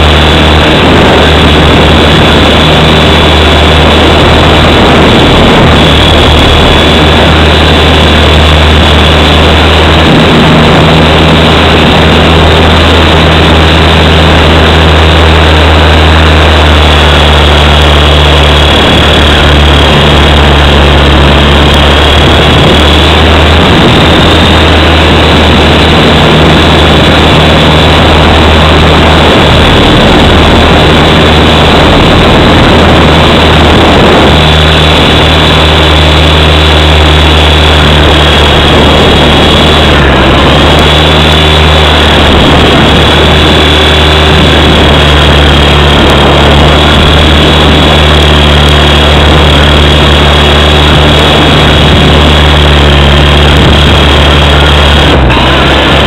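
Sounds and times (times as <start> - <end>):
rc helicopter rotor whir: 0.0 - 56.0
thin high whine: 0.0 - 56.0.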